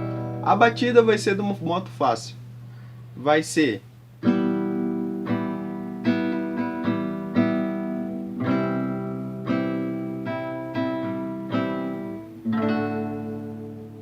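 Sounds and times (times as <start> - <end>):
acoustic guitar strumming: 0.0 - 3.0, 4.0 - 14.0.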